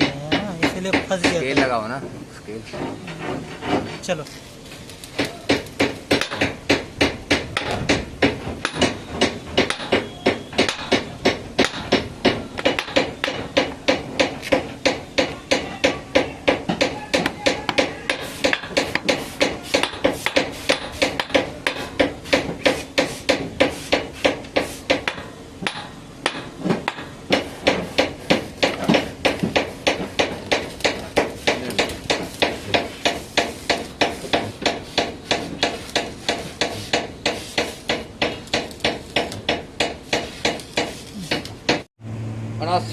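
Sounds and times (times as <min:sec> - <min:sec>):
hammer striking metal: 0:05.2 - 0:41.9.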